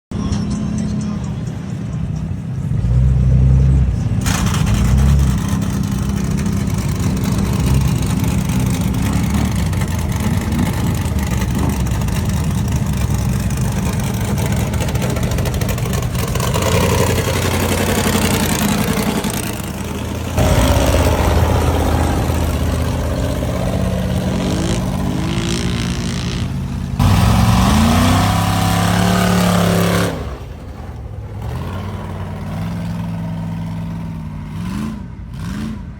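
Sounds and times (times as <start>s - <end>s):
car engine revving: 1.3s - 35.9s.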